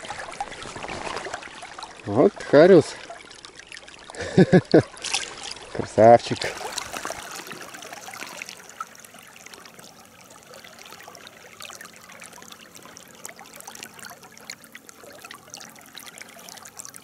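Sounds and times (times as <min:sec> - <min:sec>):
river water babbling: 0:00.0 - 0:17.0.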